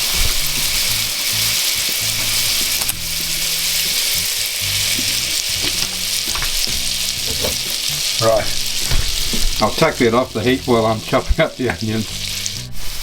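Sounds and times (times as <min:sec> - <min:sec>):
butter sizzling in frying pan: 0:00.0 - 0:13.0.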